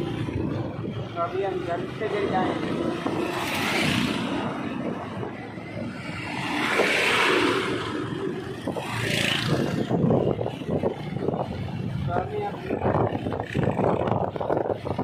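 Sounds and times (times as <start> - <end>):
road noise: 0.0 - 15.0
wind on microphone: 2.4 - 15.0.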